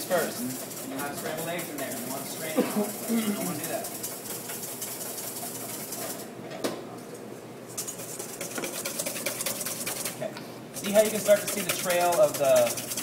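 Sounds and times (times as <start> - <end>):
whisk beating in a metal bowl: 0.0 - 6.3, 7.8 - 10.2, 10.8 - 13.0.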